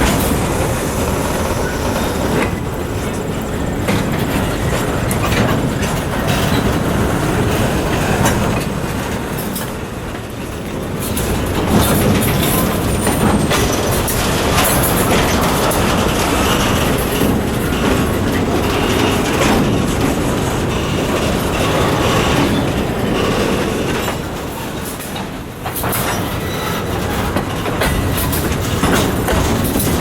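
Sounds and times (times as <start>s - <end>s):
freight train rumbling: 0.0s - 30.0s
wheels clanking over rail joints: 0.0s - 30.0s.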